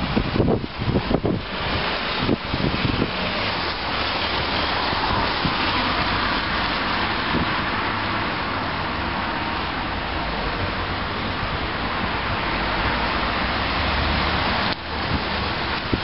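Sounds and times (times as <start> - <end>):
street ambience hiss: 0.0 - 16.0.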